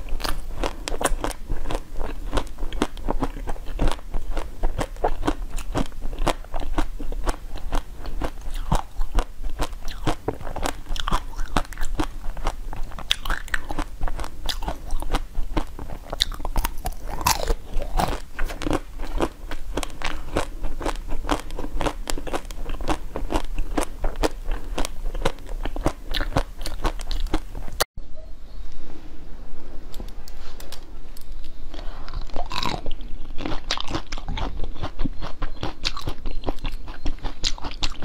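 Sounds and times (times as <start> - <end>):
crunchy bites and chewing: 0.0 - 27.8, 31.7 - 38.0.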